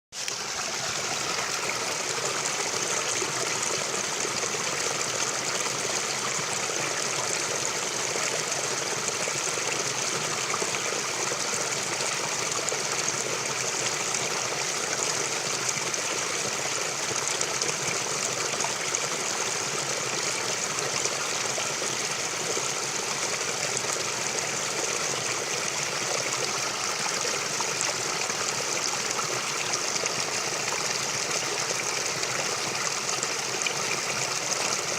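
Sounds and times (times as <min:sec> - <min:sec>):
forest stream flowing: 0:00.1 - 0:34.9.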